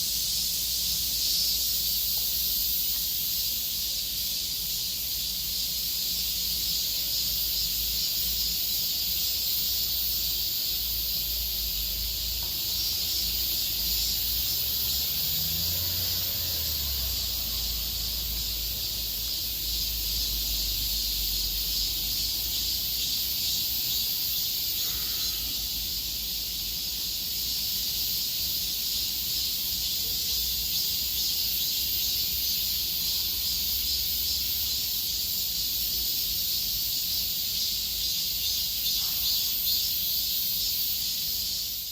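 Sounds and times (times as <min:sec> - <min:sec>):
insect chorus trilling: 0:00.0 - 0:41.9.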